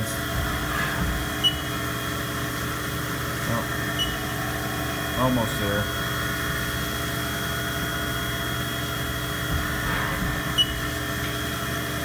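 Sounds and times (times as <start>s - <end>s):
milling machine humming and whining: 0.0s - 12.0s.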